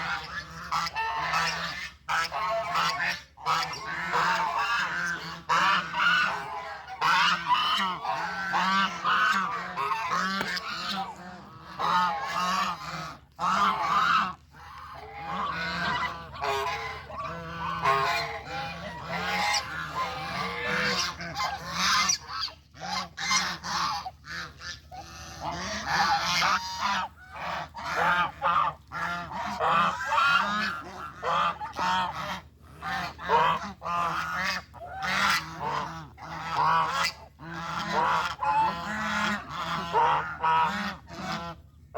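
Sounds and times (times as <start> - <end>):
geese honking: 0.0 - 41.9.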